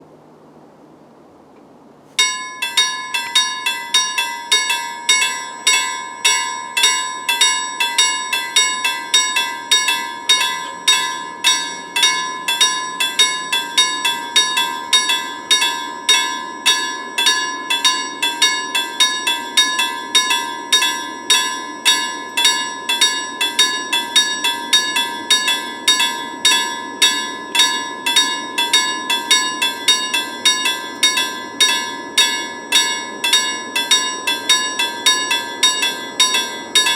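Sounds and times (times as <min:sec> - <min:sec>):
level crossing warning bell: 0:02.2 - 0:36.9.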